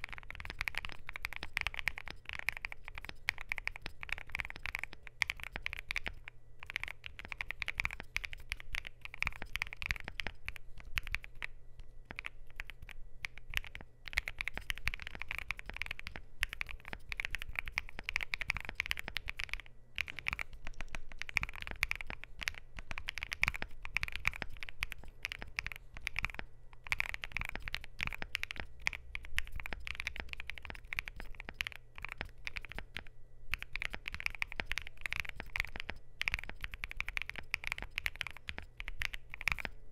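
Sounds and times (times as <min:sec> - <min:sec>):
mechanical keyboard typing: 0:00.0 - 0:11.5, 0:12.1 - 0:39.8.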